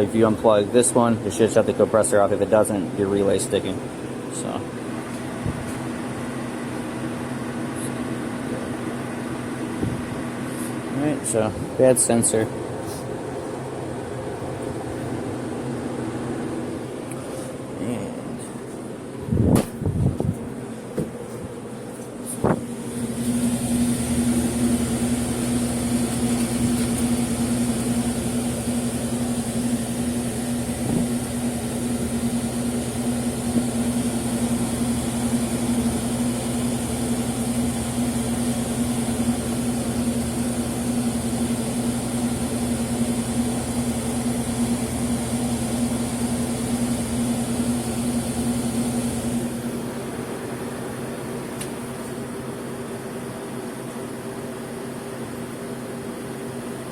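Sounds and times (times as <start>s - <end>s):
refrigeration compressor humming: 0.0s - 56.9s.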